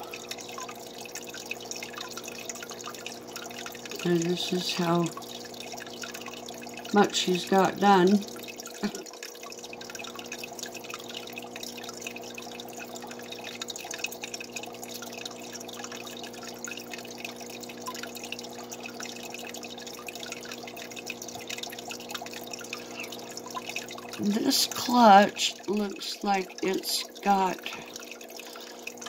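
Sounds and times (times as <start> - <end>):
water trickling and dripping: 0.0 - 29.0.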